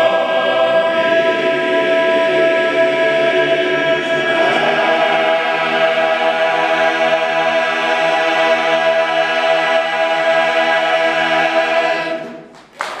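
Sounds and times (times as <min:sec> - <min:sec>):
men's chorus singing a cappella: 0:00.0 - 0:12.4.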